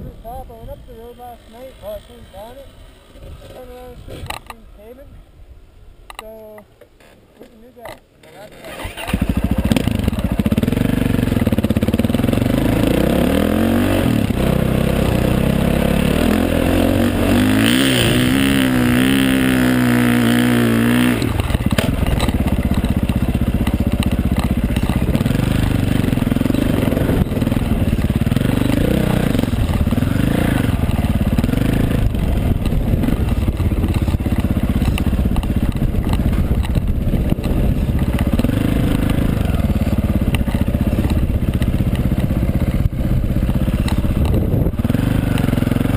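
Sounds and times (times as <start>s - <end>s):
dirt bike engine revving: 8.5s - 45.9s.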